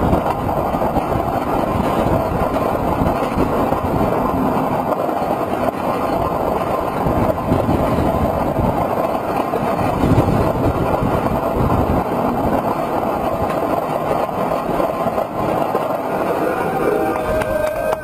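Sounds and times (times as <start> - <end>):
roller coaster wheels rumbling on track: 0.0 - 18.0
wind rushing: 0.0 - 18.0.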